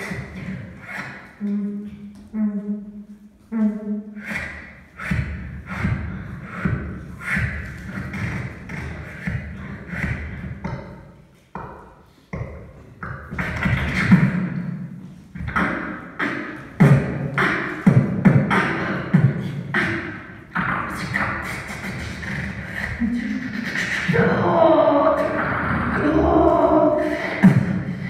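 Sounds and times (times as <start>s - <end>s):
beatboxing: 0.0s - 28.0s.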